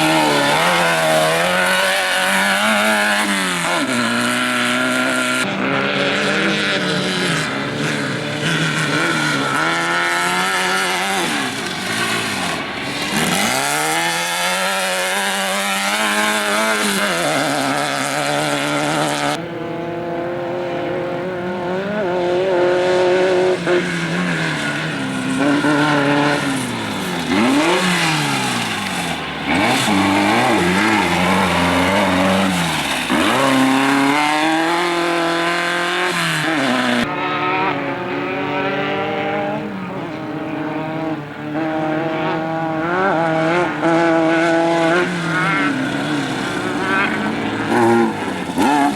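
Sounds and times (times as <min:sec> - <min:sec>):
race vehicle engines revving: 0:00.0 - 0:48.9.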